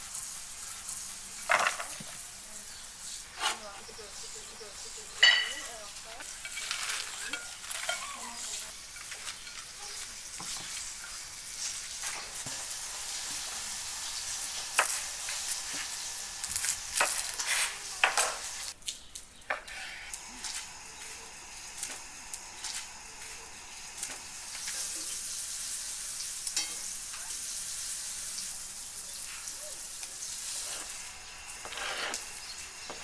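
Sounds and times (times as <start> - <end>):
food sizzling in hot oil: 0.0 - 19.0, 19.7 - 33.0.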